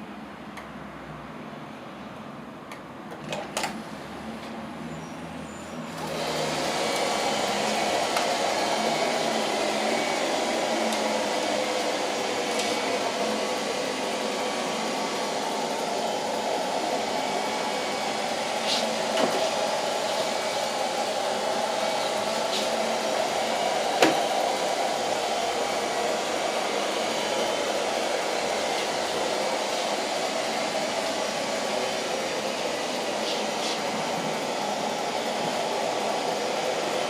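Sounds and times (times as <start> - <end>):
robot vacuum whirring: 5.9 - 37.0.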